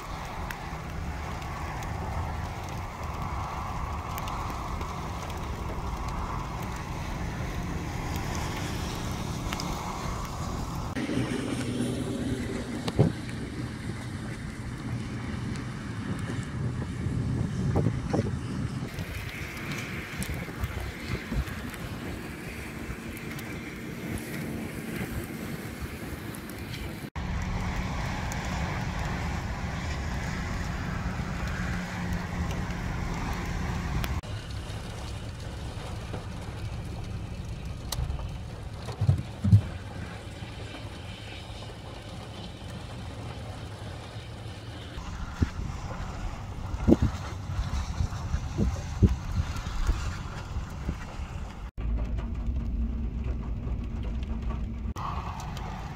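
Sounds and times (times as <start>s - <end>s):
wind blowing across microphone: 0.0s - 55.9s.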